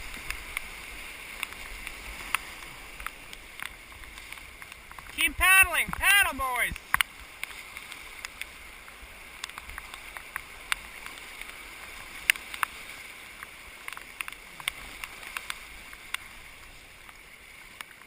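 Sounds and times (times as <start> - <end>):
creek water rushing: 0.0 - 18.0
paddles splashing water: 0.0 - 18.0.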